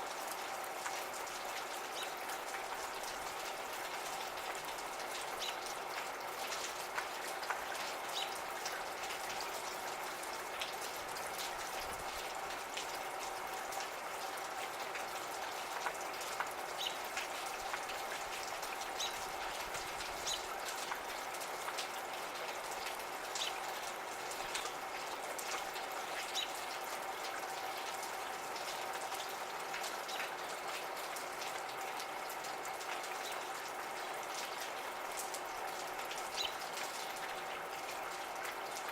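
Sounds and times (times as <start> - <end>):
drops pattering and dripping: 0.0 - 38.9
gentle rain: 0.0 - 38.9.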